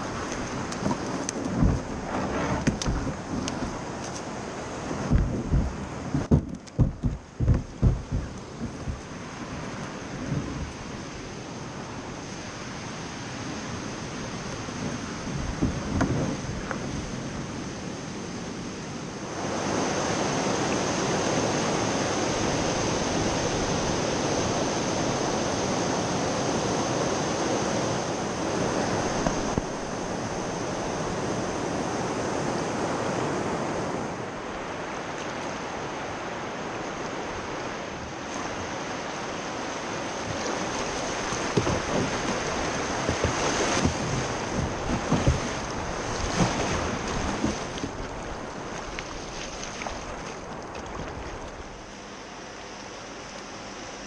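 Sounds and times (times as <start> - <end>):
white water rushing: 0.0 - 54.0.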